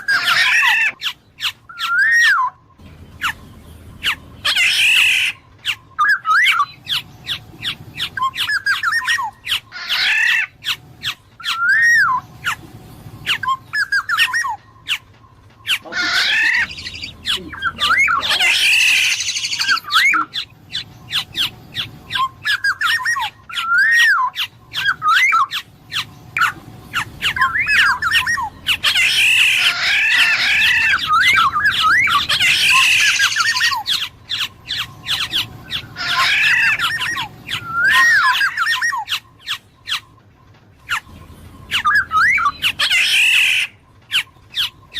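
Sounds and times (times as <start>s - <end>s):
bird whistled calls: 0.0s - 44.9s
scratchy bird calls: 0.0s - 44.9s.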